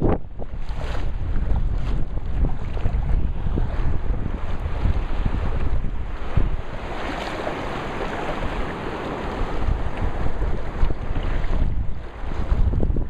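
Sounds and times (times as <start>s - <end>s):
wind buffeting microphone: 0.0s - 13.0s
small waves washing: 0.3s - 13.0s.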